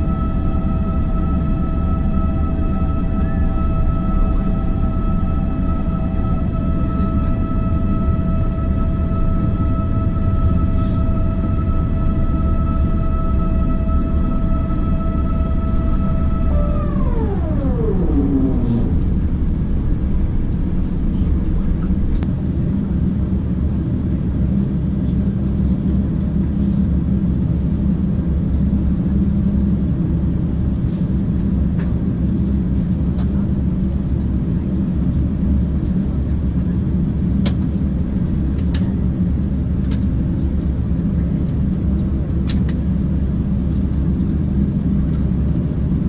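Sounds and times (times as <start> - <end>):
aircraft cabin rumble: 0.0 - 46.0.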